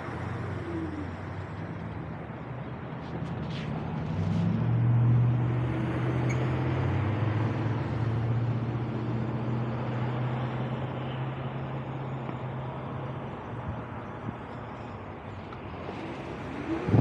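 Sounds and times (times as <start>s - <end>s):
road and wind noise: 0.0s - 17.0s
vehicle engine humming: 0.0s - 17.0s.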